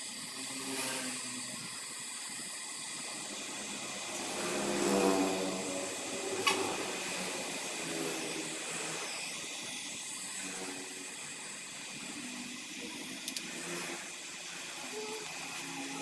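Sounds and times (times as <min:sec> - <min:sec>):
welding torch flame hissing: 0:00.0 - 0:16.0.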